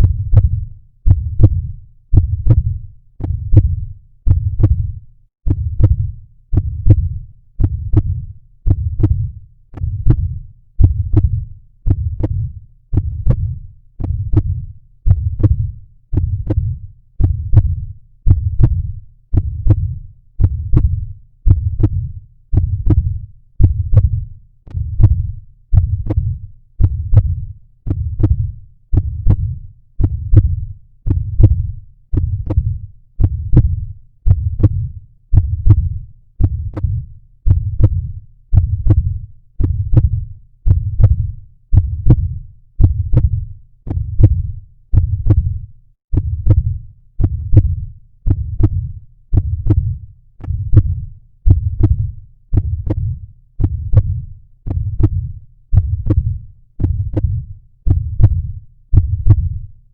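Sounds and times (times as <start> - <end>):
heartbeat: 0.0 - 59.8.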